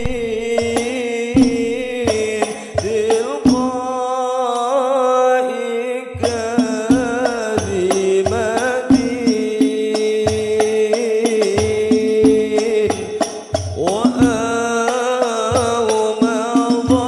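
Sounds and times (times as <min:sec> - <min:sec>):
frame drums beating: 0:00.0 - 0:04.0, 0:06.2 - 0:17.0
man singing devotional melody: 0:00.0 - 0:17.0.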